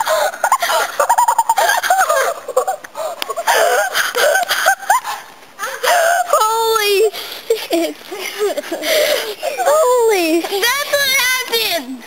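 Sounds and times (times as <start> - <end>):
children laughing and shrieking: 0.0 - 11.6.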